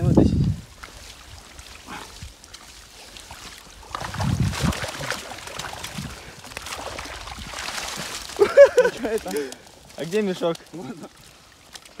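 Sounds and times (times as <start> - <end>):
water splashing and sloshing: 0.0 - 12.0
wet netting rustling: 0.0 - 12.0.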